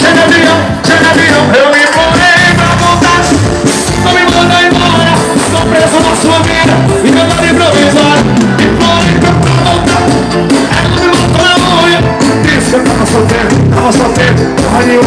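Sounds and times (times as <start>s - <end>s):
live band with singer: 0.0s - 15.0s.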